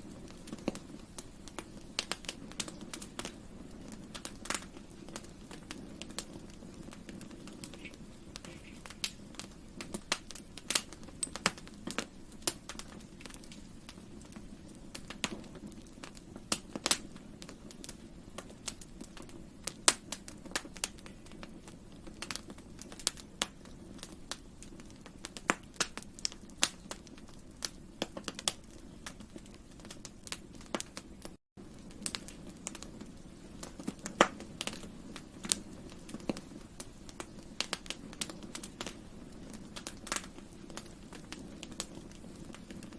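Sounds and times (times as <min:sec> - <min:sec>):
campfire crackles and pops: 0:00.0 - 0:42.9
low hiss of fire: 0:00.0 - 0:42.9.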